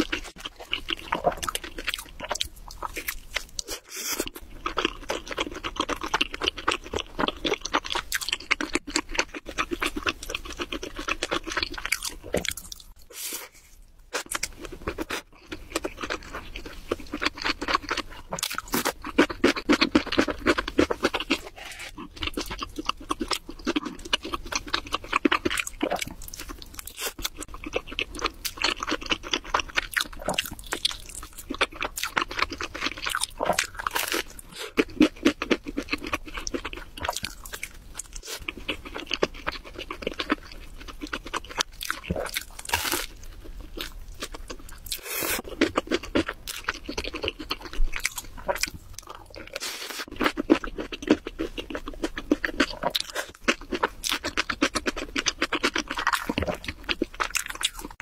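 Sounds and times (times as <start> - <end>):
crunchy chewing of pizza: 0.0 - 13.0, 14.1 - 58.0.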